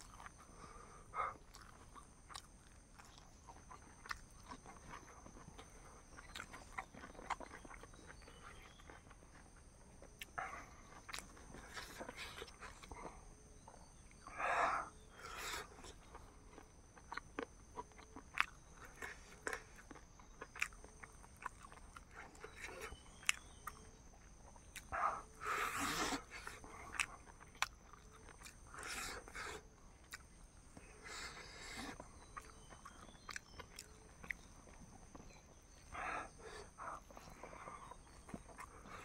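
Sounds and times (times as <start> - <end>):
wet chewing and mouth clicks: 0.0 - 0.7, 1.3 - 14.3, 14.9 - 39.0.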